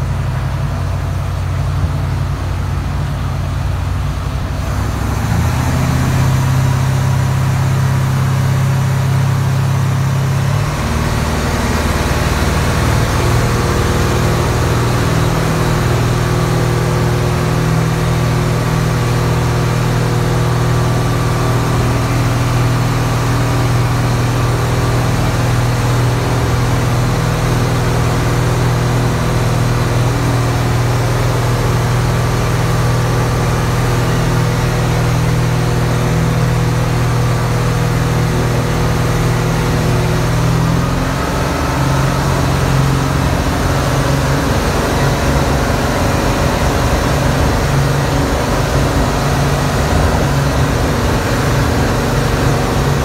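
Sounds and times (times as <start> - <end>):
boat engine running: 0.0 - 53.0
water rushing past hull: 0.0 - 53.0.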